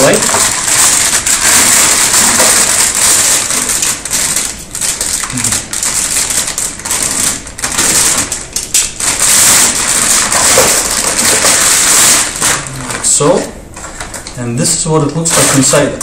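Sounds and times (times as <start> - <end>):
foil bag crinkling: 0.0 - 13.4, 15.3 - 15.9.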